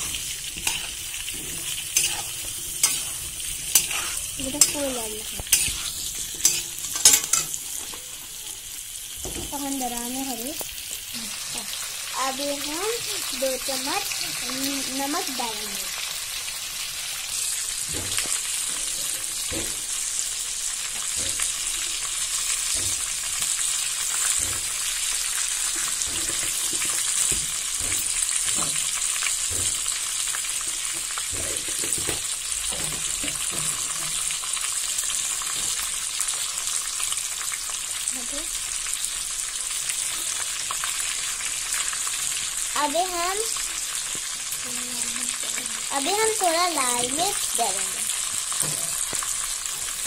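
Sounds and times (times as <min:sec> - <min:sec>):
olives sizzling in hot oil: 0:00.0 - 0:50.0.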